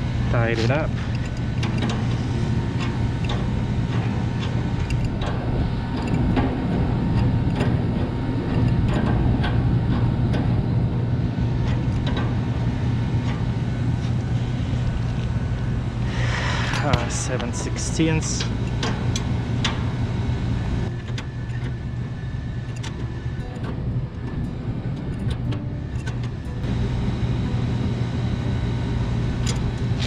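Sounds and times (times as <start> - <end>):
low machinery hum: 0.0 - 30.0.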